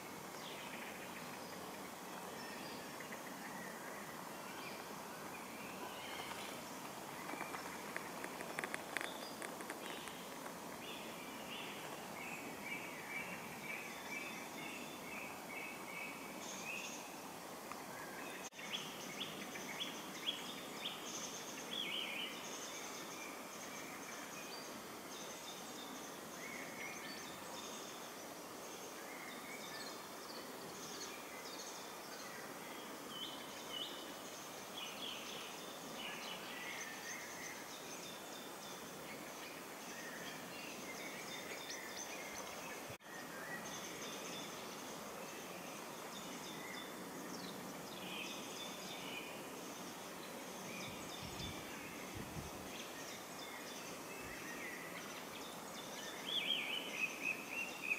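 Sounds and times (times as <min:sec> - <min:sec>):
outdoor background hiss: 0:00.0 - 0:57.9.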